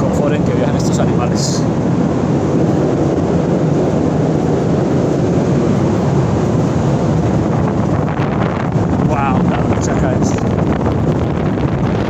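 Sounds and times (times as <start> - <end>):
ventilation rushing drone: 0.0 - 12.0.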